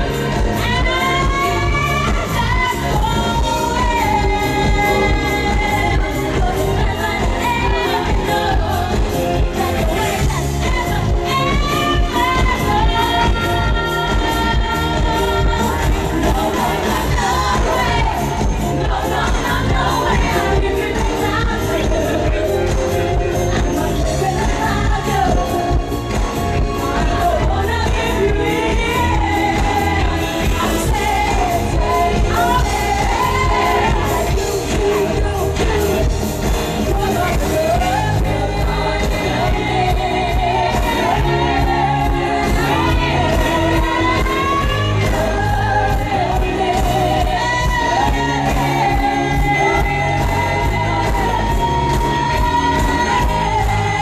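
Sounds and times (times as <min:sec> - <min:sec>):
backing band playing: 0:00.0 - 0:54.0
woman singing pop song: 0:00.0 - 0:54.0.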